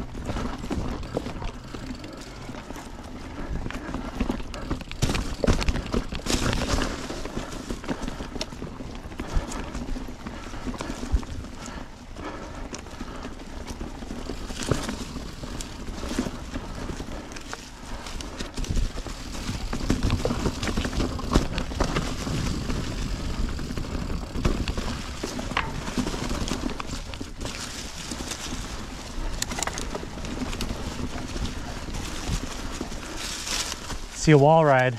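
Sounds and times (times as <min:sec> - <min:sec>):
bike knocking and rattling: 0:00.0 - 0:34.7
bike tyres rumbling on dirt: 0:00.0 - 0:34.9.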